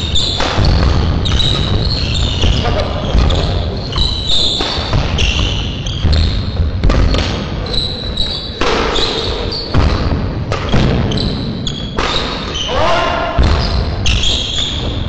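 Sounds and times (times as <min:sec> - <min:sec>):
shoes squeaking on floor: 0:00.0 - 0:15.0
rackets hitting shuttlecock: 0:00.1 - 0:12.6.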